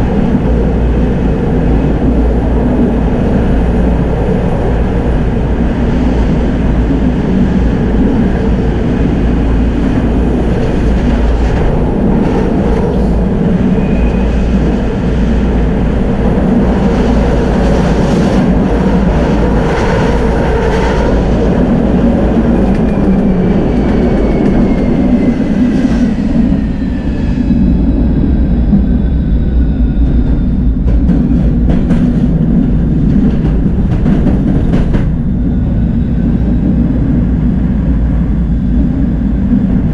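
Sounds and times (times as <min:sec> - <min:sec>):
tram rolling rumble: 0:00.0 - 0:39.9.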